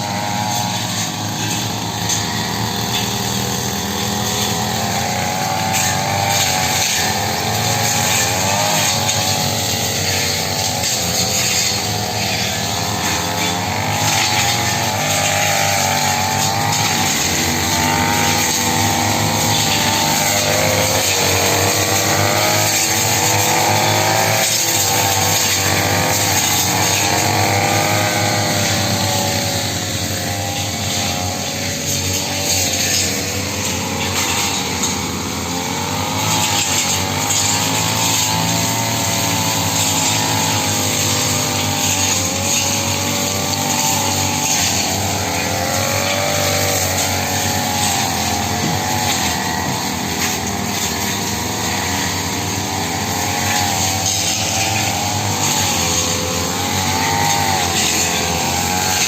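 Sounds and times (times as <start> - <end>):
brush cutter engine: 0.0 - 59.0.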